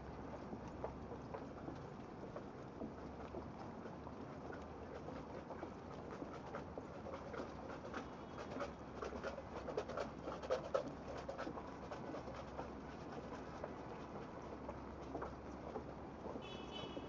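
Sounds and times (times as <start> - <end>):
low city hum: 0.0 - 17.0
rain pattering on umbrellas: 0.0 - 17.0.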